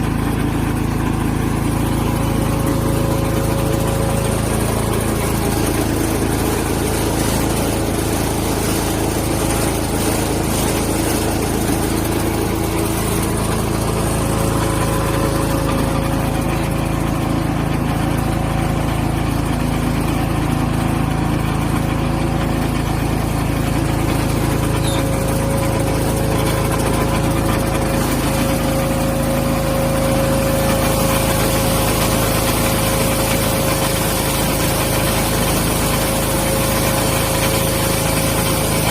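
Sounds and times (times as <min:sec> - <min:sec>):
engine running steadily: 0:00.0 - 0:38.9
log splitter whine: 0:00.0 - 0:38.9.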